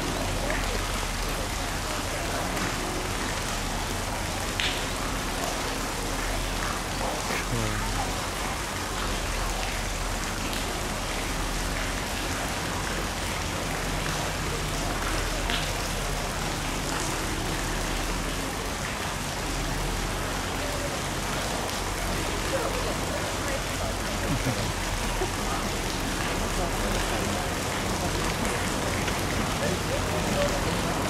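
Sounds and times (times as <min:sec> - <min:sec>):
faint voices: 0:00.0 - 0:31.0
rushing water hiss: 0:00.0 - 0:31.0.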